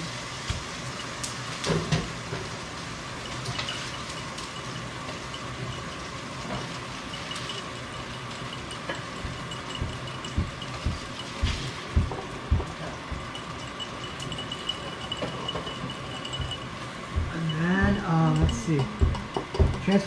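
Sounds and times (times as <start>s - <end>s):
fish sizzling in a skillet: 0.0s - 18.8s.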